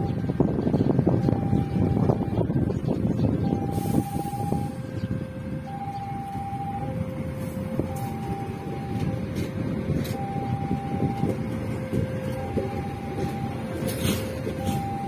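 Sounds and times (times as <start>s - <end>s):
train coaches rumbling on rails: 0.0s - 15.0s
two-tone crossing alarm: 0.0s - 15.0s.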